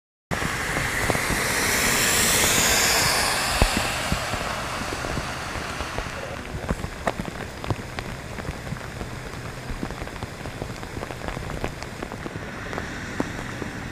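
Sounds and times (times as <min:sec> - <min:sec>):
rain dripping: 0:00.3 - 0:13.9
tyres hissing through water: 0:00.3 - 0:13.9.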